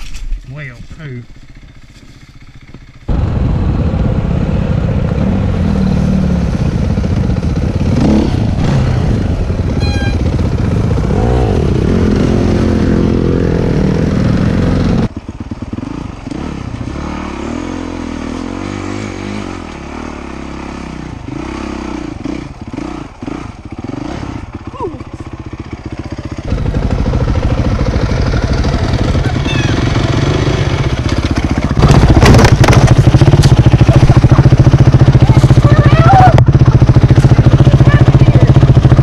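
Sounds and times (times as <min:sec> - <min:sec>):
dirt bike engine revving: 0:03.1 - 0:39.0.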